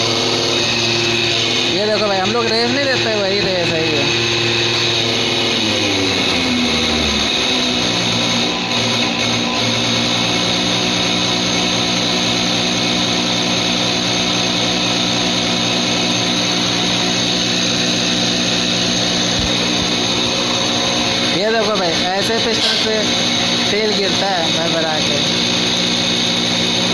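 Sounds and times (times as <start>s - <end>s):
pump test bench hum and whine: 0.0s - 26.9s.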